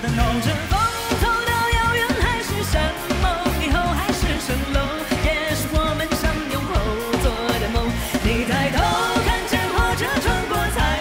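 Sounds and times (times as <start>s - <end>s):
full band with steady beat: 0.0s - 11.0s
woman singing pop song: 0.0s - 11.0s.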